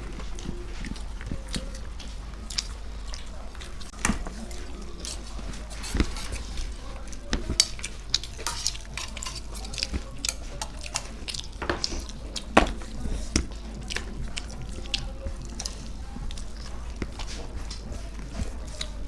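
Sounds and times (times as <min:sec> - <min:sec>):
food scooped against a plate: 0:03.6 - 0:19.0.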